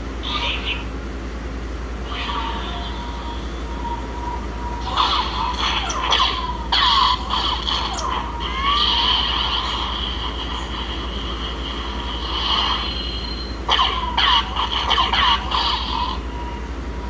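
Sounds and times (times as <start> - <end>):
toy lightsaber electronic hum: 0.0 - 17.0.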